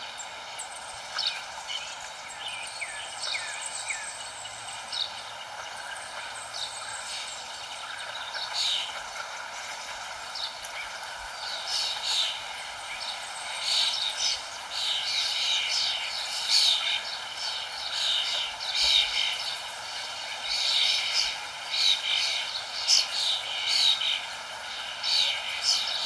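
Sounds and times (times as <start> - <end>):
small birds chirping: 0.0 - 26.0
steady background hiss: 0.0 - 26.0.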